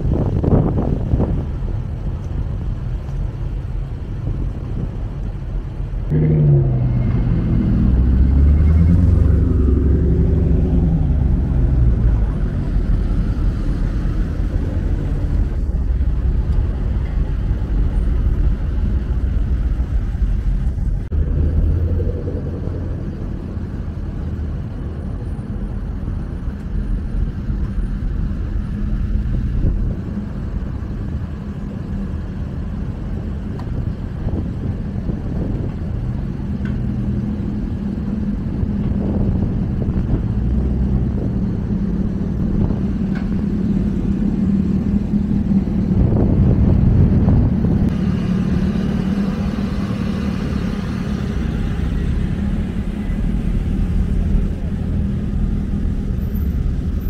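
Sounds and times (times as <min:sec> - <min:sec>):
car engines running: 0:00.0 - 0:57.0.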